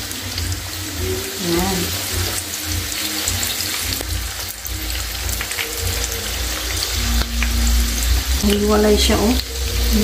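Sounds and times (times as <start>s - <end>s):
shrimp sizzling in oil: 0.0s - 10.0s.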